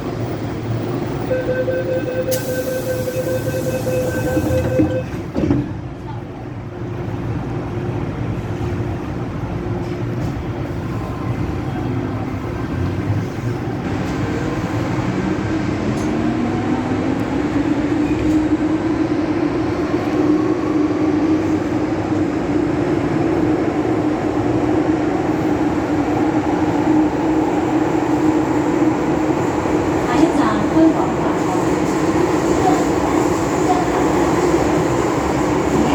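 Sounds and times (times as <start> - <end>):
train running rumble: 3.4 - 35.9.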